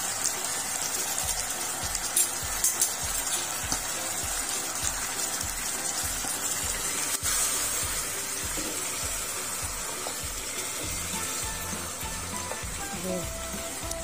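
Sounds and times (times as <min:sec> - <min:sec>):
background music with a beat: 0:00.0 - 0:14.0
meat sizzling in a pot: 0:00.0 - 0:14.0.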